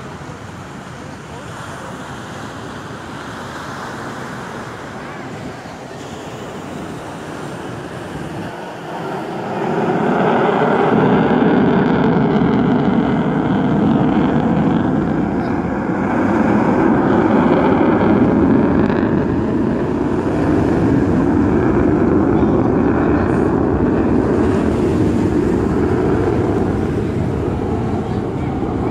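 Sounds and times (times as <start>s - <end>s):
jet aircraft flying overhead: 0.0s - 28.9s.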